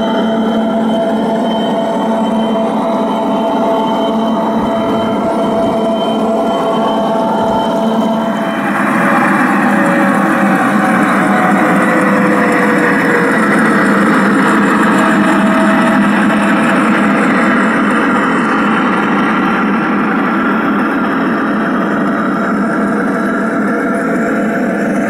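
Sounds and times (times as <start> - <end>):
recorded diesel engine sound: 0.0 - 25.0
wheels rolling on track: 0.0 - 25.0.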